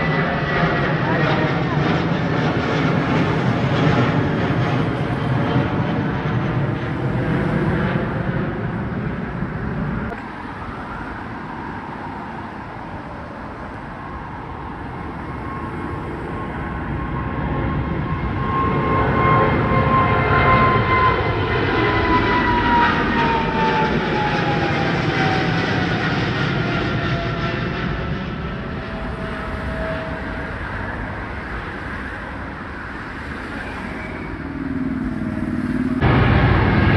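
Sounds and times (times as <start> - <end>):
jet airliner passing by: 0.0 - 36.9
jet engine whine falling in pitch: 0.0 - 36.9.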